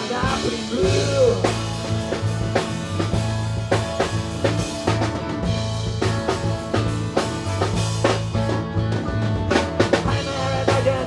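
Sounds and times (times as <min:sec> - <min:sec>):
drum kit beat: 0:00.0 - 0:11.0
electric bass line: 0:00.0 - 0:11.0
rock band playing: 0:00.0 - 0:11.0.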